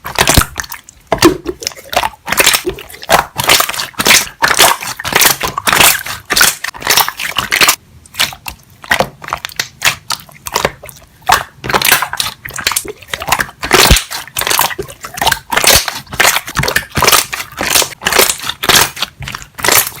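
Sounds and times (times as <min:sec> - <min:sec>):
slime squeezed with popping bubbles: 0:00.0 - 0:20.0.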